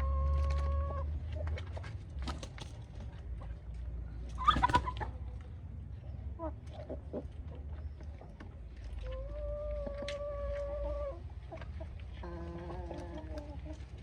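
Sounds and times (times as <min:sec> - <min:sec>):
chickens clucking: 0:00.0 - 0:01.8, 0:04.3 - 0:14.0.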